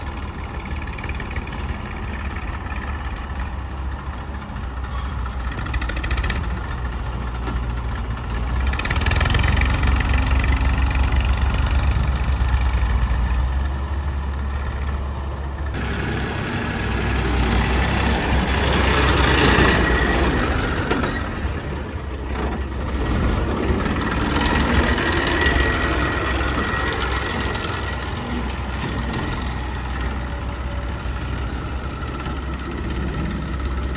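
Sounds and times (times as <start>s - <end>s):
diesel engines running: 0.0s - 33.9s.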